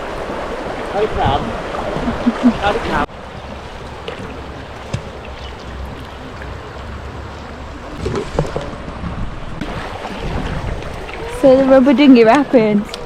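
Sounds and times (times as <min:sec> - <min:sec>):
river water rushing and splashing: 0:00.0 - 0:13.0
wind rumbling on microphone: 0:00.0 - 0:13.0.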